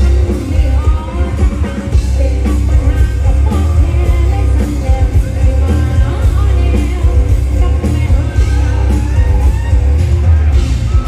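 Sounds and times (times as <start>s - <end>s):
heavy bass: 0.0s - 11.0s
live band music: 0.0s - 11.0s
steady drum beat: 0.0s - 11.0s
voice singing: 0.0s - 11.0s.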